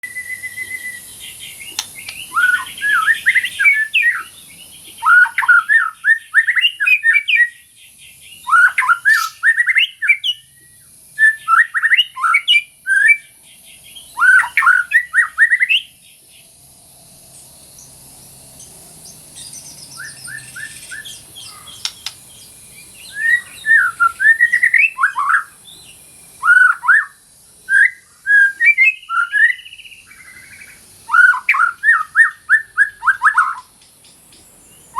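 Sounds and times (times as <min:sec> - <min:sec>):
bird singing whistles and trills: 0:00.0 - 0:16.6, 0:18.6 - 0:34.9.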